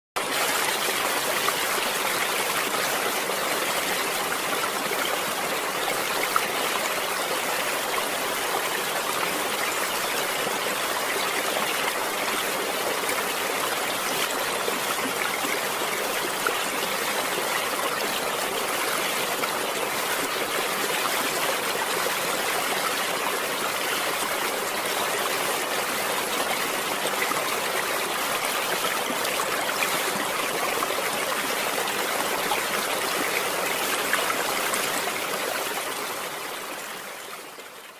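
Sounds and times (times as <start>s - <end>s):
stream water flowing: 0.2s - 37.9s.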